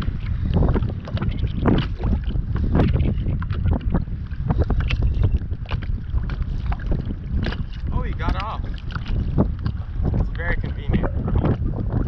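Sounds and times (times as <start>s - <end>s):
water slapping and splashing: 0.0s - 12.0s
wind buffeting microphone: 0.0s - 12.0s.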